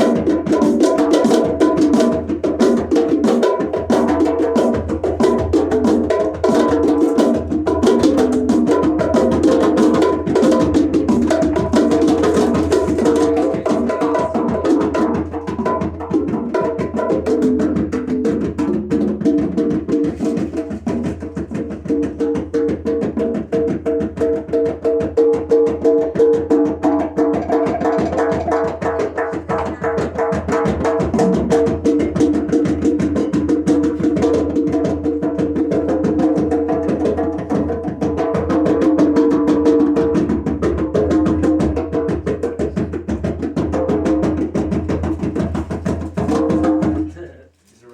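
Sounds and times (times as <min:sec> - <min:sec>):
djembe drumming: 0:00.0 - 0:47.3.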